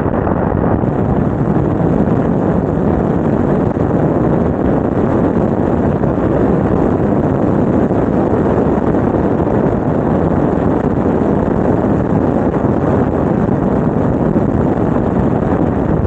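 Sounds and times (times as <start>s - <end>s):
wind rush over microphone: 0.0s - 16.0s.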